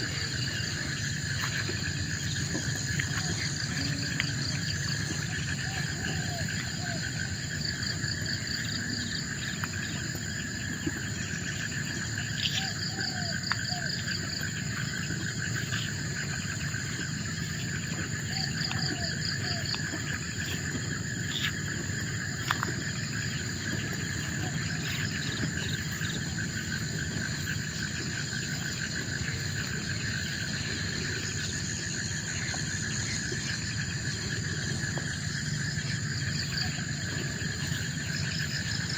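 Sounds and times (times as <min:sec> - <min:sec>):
insects droning and trilling: 0:00.0 - 0:38.9.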